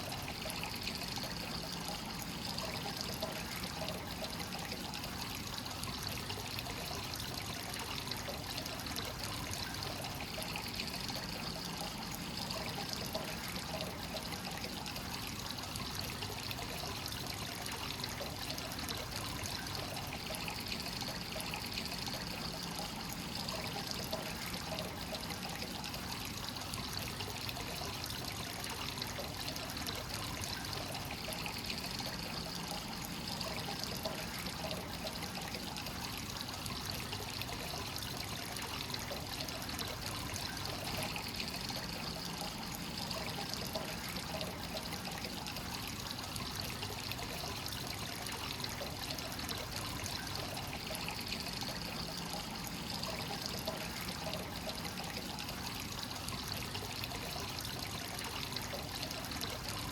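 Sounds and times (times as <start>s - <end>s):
water pouring into a bath: 0.0s - 59.9s.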